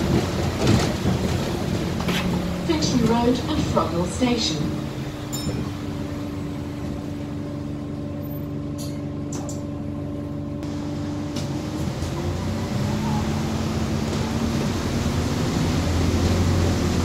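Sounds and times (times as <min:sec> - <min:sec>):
hybrid bus drive whining: 0:00.0 - 0:17.0
road rumble: 0:00.0 - 0:17.0.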